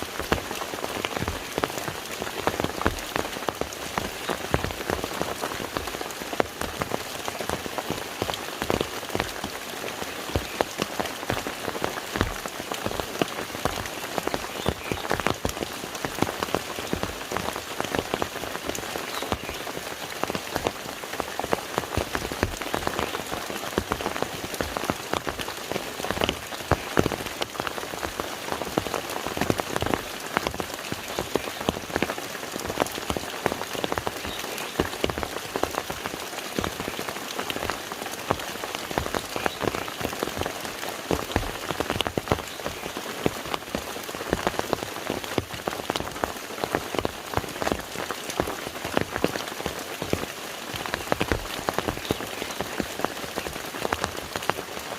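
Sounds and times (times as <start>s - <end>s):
rain falling on a lake: 0.0s - 54.9s.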